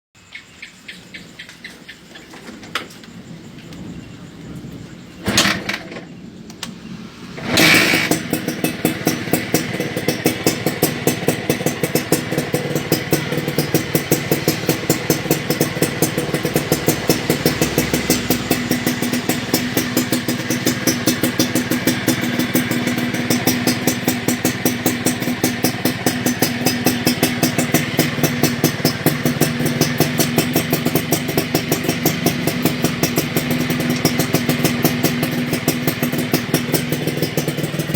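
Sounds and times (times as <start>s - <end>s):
motorcycle engine starting and idling: 0.2s - 37.9s
exhaust popping: 1.2s - 37.9s.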